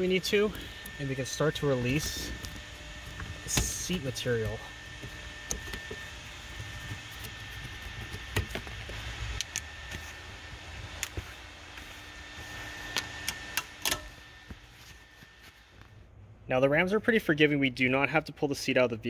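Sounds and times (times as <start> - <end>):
low hum: 0.0 - 16.5.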